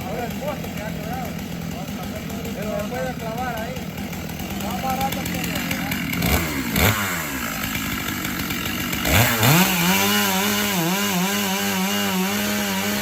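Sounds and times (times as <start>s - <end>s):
chainsaw revving and cutting: 0.0s - 13.0s.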